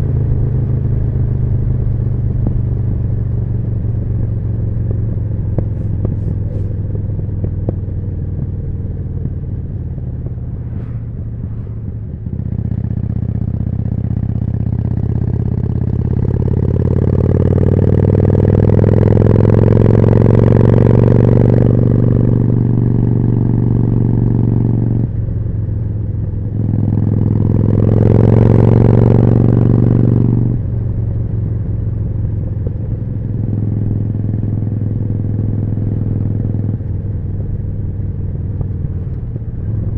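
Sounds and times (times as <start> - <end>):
motorcycle engine revving: 0.0 - 25.2, 26.3 - 39.9.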